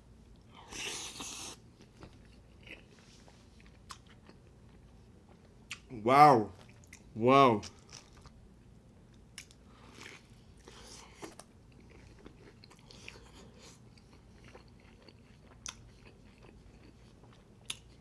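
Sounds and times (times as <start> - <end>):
person chewing: 0.5 - 5.9, 6.6 - 8.4, 9.4 - 18.0.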